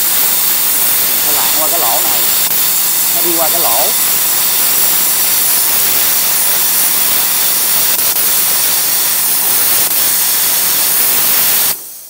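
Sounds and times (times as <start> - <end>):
plasma cutter hissing: 0.0 - 12.0.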